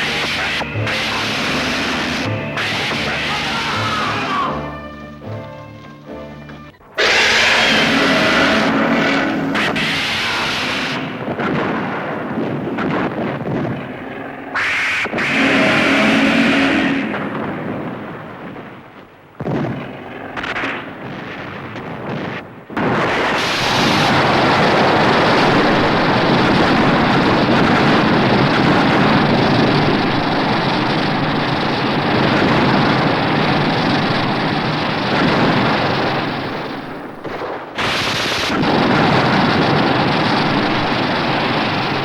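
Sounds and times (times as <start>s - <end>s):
loud rumble of blast: 0.0s - 4.6s, 7.0s - 42.0s
explosion bangs: 7.0s - 42.0s.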